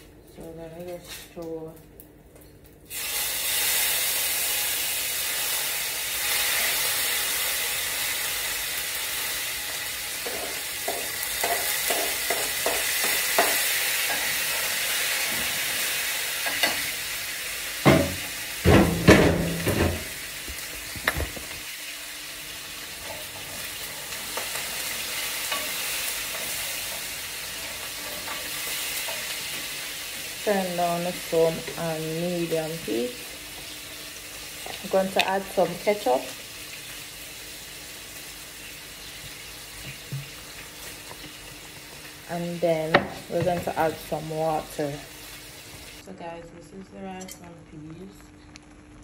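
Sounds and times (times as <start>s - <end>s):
food sizzling in hot oil: 2.8s - 46.1s.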